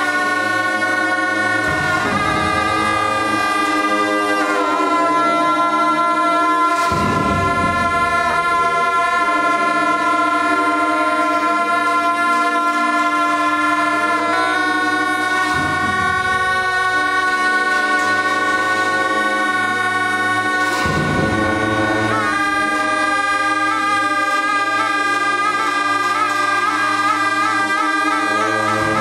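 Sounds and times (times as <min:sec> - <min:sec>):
ritual horns holding long notes: 0:00.0 - 0:29.0.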